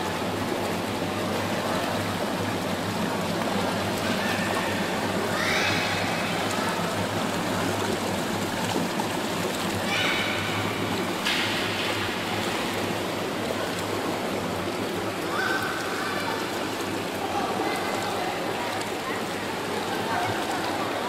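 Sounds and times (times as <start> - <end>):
water splashing from swimming: 0.0 - 21.0.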